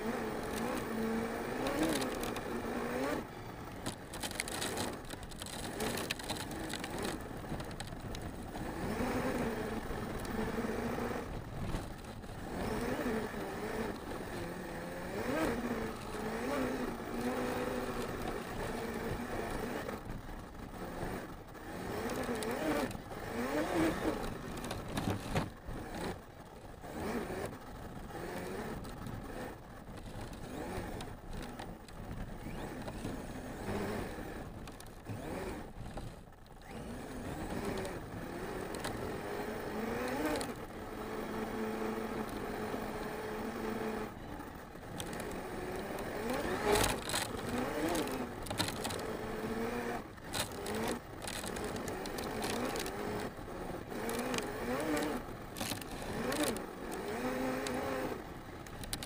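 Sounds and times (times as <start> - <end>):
tyres on dirt and gravel: 0.0 - 59.0.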